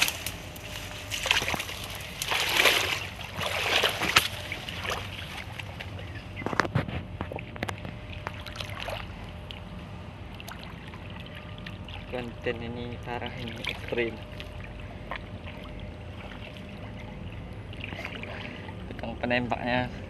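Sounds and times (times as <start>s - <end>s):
water sloshing and splashing: 0.0s - 19.7s
water lapping: 0.0s - 20.0s.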